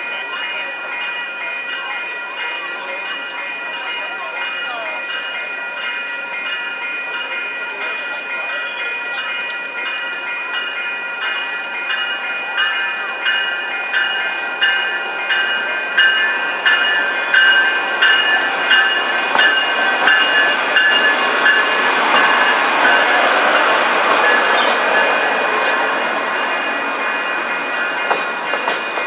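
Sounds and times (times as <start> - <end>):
passenger train passing: 0.0 - 29.0
rolling noise of train cars: 0.0 - 29.0
train warning bell ringing: 0.0 - 29.0.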